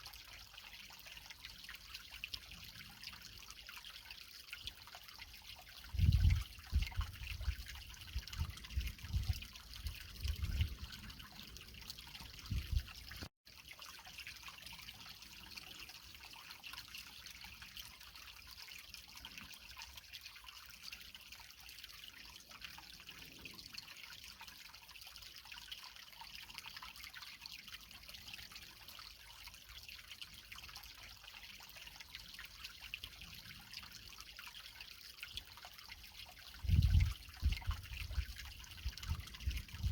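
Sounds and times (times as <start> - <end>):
creek water trickling over rocks: 0.0 - 39.9.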